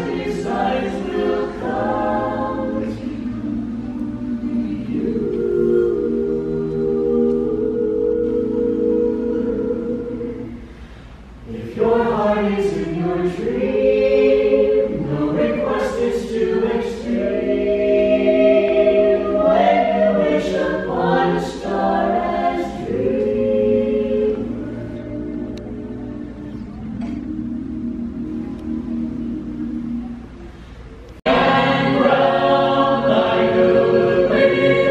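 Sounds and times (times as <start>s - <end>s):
a cappella group singing in harmony: 0.0s - 34.9s.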